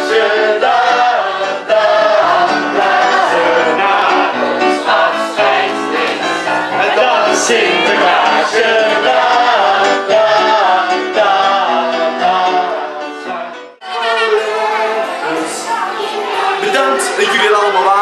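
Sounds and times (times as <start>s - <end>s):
loud music with singing: 0.0s - 18.0s.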